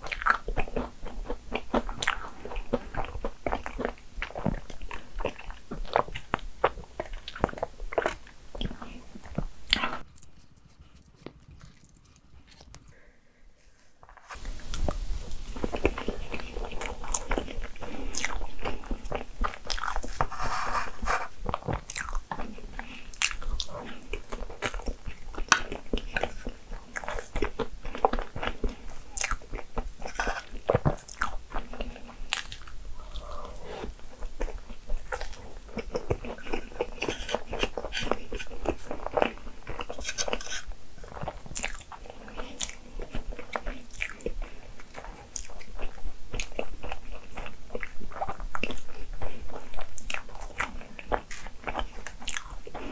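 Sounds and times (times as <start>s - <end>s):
person biting and chewing cake: 0.0s - 13.0s, 14.1s - 52.9s.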